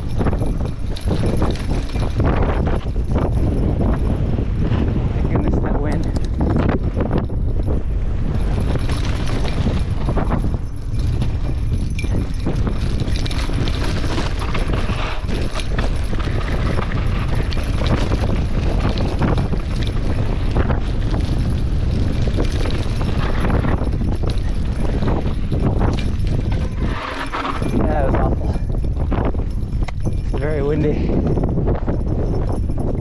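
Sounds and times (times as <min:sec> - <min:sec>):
bike rattling on dirt trail: 0:00.0 - 0:33.0
wind buffeting microphone: 0:00.0 - 0:33.0.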